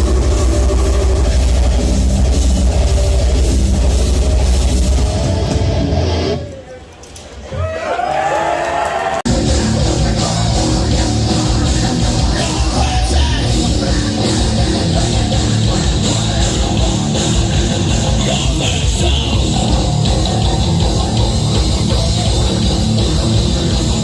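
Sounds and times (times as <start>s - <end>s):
distorted electric guitar: 0.0s - 6.6s, 9.3s - 24.0s
heavy metal band playing live: 0.0s - 6.6s, 9.2s - 24.0s.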